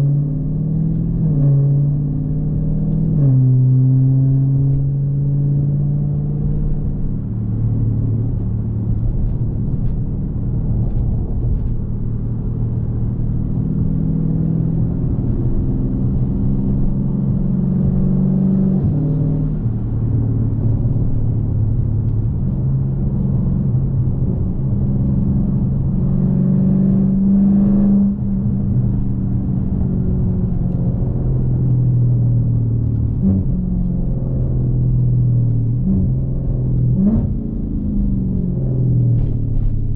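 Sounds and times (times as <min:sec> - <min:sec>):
car engine accelerating and shifting: 0:00.0 - 0:39.9.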